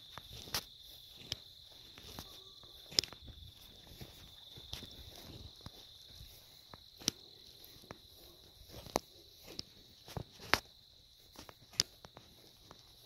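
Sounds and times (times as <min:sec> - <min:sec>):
crickets trilling: 0:00.0 - 0:13.0
footstep crunches on ground: 0:00.0 - 0:13.0.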